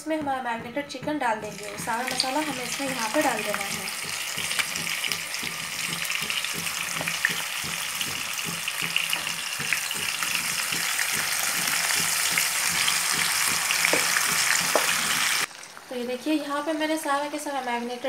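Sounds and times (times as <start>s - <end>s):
chicken sizzling in oil: 1.5s - 18.0s.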